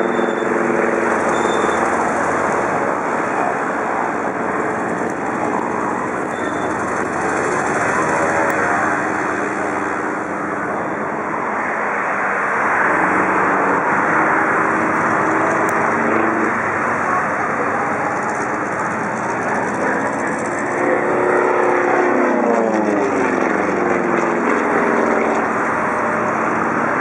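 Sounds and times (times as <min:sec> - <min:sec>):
propeller plane engine at high power: 0:00.0 - 0:27.0.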